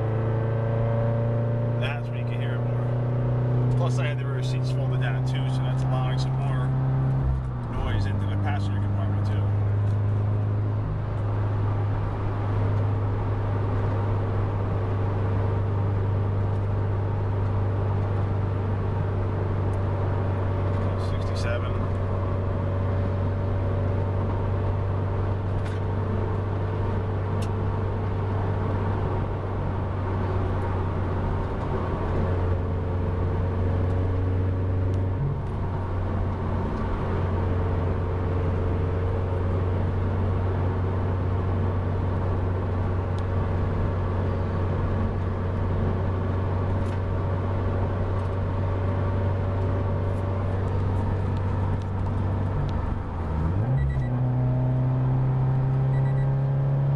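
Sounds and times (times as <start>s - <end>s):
car engine droning: 0.0s - 56.9s
tyre and road noise: 0.0s - 56.9s.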